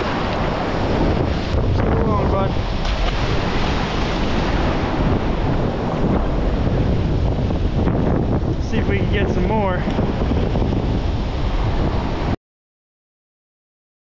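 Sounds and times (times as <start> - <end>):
ocean surf over rocks: 0.0 - 12.4
wind buffeting microphone: 0.0 - 12.4.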